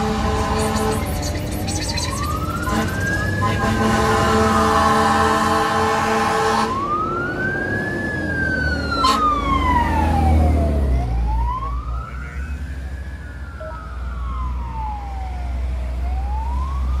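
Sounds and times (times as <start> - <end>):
fire truck siren wailing: 0.0 - 17.0.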